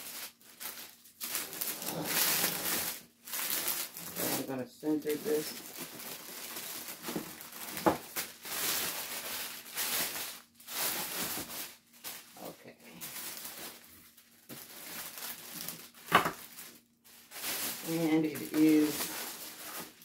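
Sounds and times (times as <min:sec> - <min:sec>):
plastic bag rustling and crinkling: 0:00.0 - 0:20.0.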